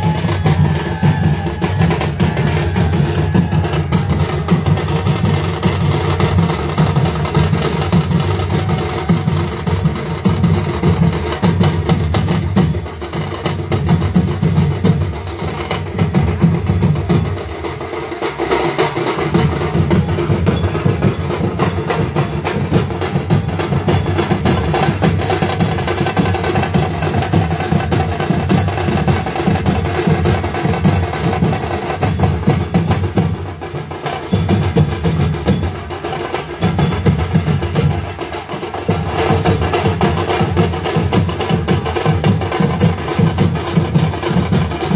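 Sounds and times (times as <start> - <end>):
fast dense drumming: 0.0 - 44.9.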